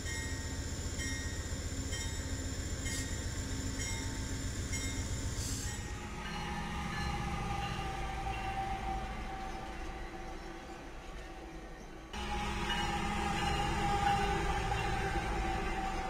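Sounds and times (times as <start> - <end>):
train high whine: 0.0 - 16.0
train wheels rumbling on track: 0.0 - 16.0.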